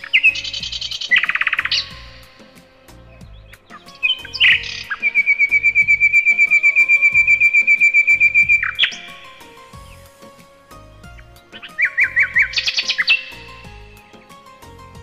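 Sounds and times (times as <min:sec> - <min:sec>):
songbird trilling: 0:00.0 - 0:10.2, 0:11.1 - 0:14.3
soft background music with beat: 0:00.0 - 0:15.0.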